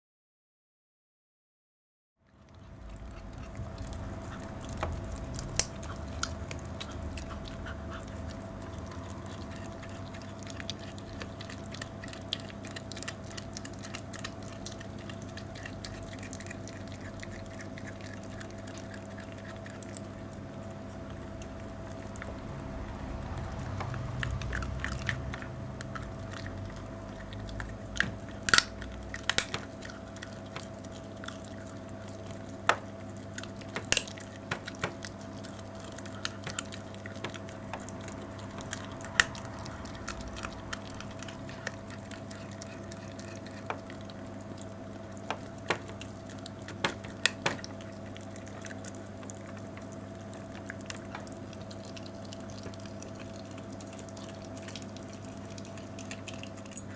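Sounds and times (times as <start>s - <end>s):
dog gnawing a bone: 2.3s - 56.9s
steady low hum: 2.3s - 56.9s.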